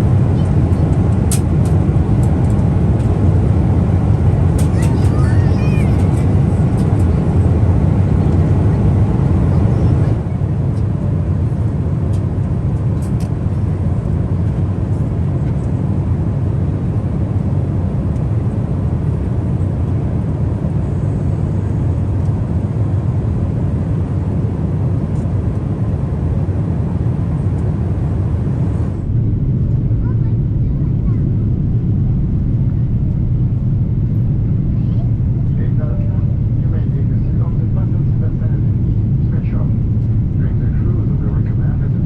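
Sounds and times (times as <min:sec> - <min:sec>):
airliner cabin engine rush: 0:00.0 - 0:42.0.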